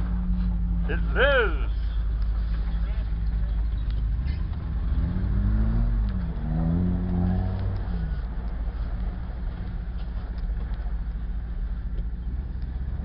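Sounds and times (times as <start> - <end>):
engine revving and rumbling: 1.7 - 13.0.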